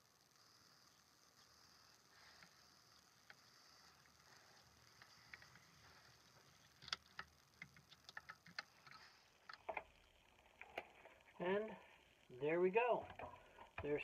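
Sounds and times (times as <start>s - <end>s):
small screws and plastic parts clicking: 0.0s - 11.4s.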